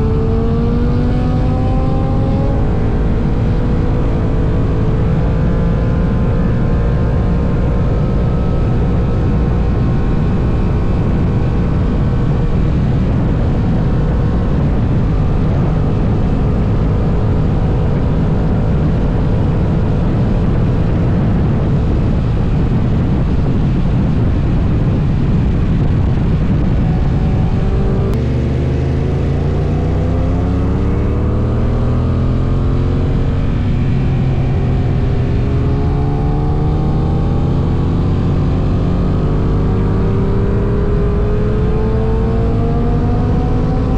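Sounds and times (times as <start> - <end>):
motorcycle engine running: 0.0 - 43.9
wind rushing on microphone: 0.0 - 43.9.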